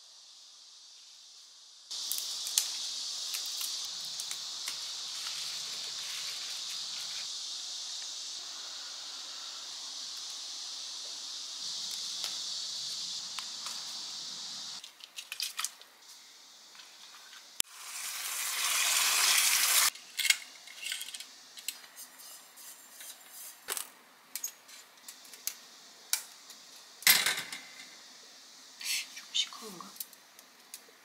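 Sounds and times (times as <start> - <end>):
gas hiss: 0.0 - 14.8, 15.8 - 20.0, 24.4 - 31.0.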